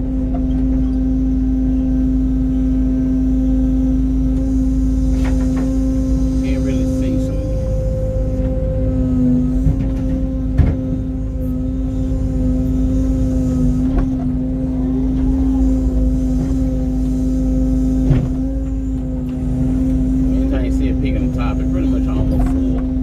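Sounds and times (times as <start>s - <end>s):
excavator engine and hydraulics humming: 0.0s - 23.0s.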